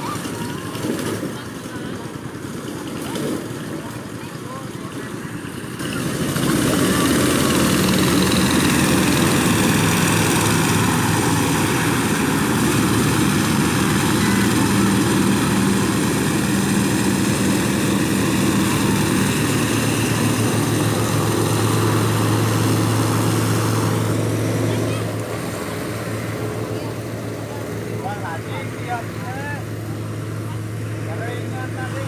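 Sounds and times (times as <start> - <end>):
small engine running propeller: 0.0 - 32.0.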